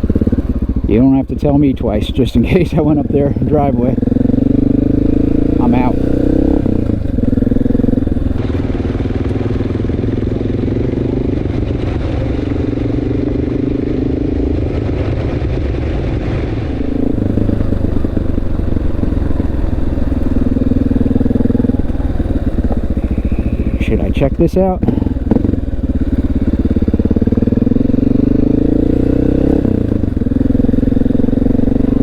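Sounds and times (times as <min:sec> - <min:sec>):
motorcycle engine running: 0:00.0 - 0:14.8, 0:16.6 - 0:32.0.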